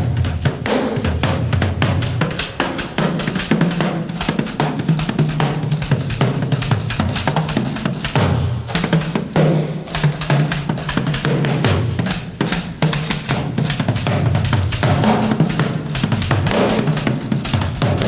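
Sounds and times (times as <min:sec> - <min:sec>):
band music with drums: 0:00.0 - 0:18.0
tambourine: 0:00.0 - 0:18.0.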